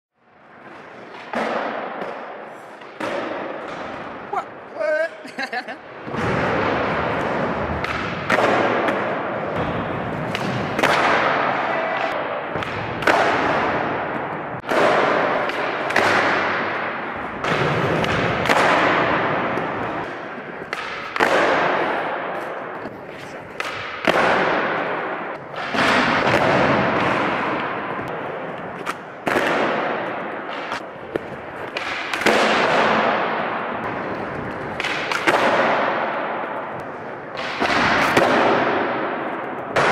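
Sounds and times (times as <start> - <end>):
skateboard wheels rolling: 5.9 - 39.9
skateboard pops and landings clacking: 6.1 - 39.9.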